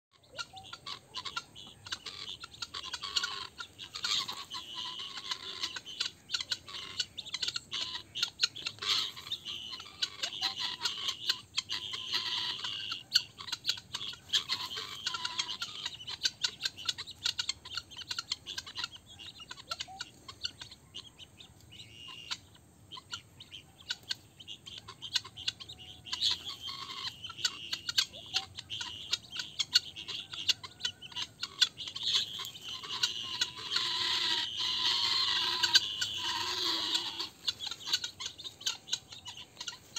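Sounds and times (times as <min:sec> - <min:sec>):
guineafowl alarm calls: 0:00.1 - 0:39.9.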